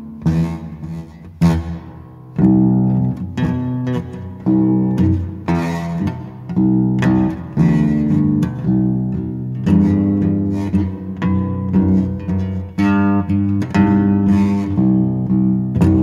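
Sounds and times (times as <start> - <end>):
out of tune guitar strumming: 0.0 - 16.0.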